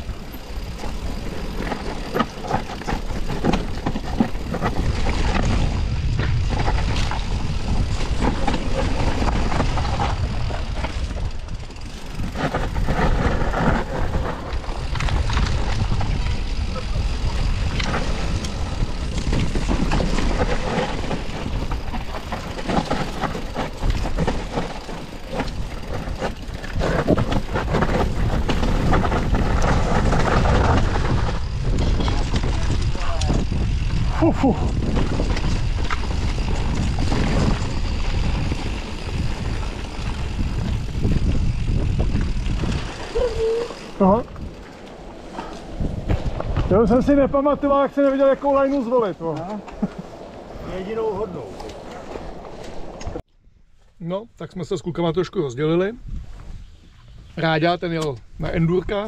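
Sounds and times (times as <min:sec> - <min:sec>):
wind rumbling on microphone: 0:00.0 - 0:53.8, 0:55.8 - 0:59.0
bike rattling on dirt trail: 0:00.0 - 0:59.0.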